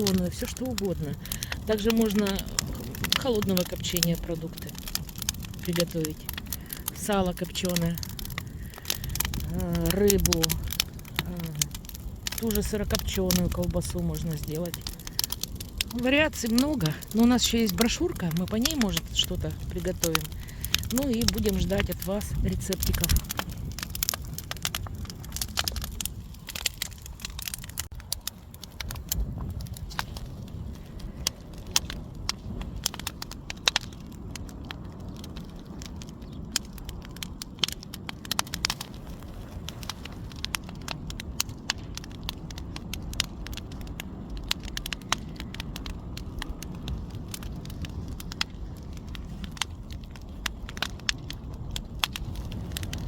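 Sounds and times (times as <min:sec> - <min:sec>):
bonfire crackling and popping: 0:00.0 - 0:53.0
low rumble of fire: 0:00.0 - 0:53.0.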